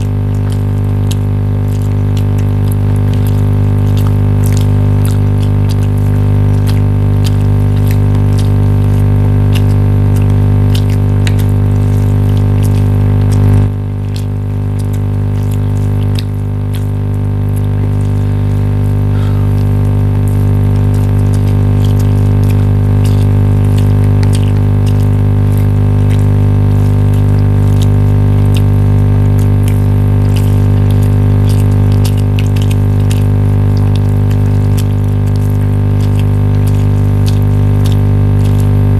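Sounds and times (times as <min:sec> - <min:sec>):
loud steady tonal hum: 0:00.0 - 0:38.9.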